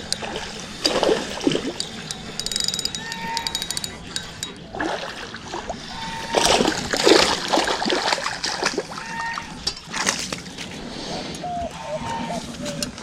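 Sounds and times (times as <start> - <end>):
fish splashing in water: 0.0 - 10.8.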